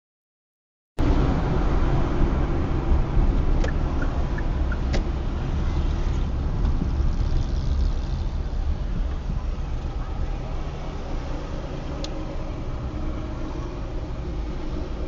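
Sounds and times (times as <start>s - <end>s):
car driving rumble: 1.0s - 15.0s.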